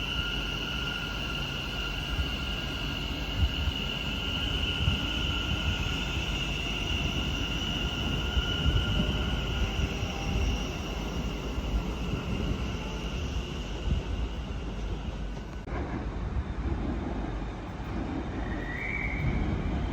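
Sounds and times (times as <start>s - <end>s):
high-pitched train whine: 0.0s - 19.9s
train rumble: 0.0s - 19.9s.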